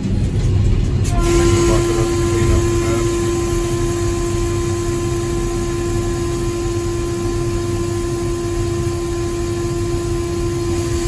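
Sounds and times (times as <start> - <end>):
engine and conveyor rumble: 0.0 - 11.0
strong steady tone: 0.0 - 11.0.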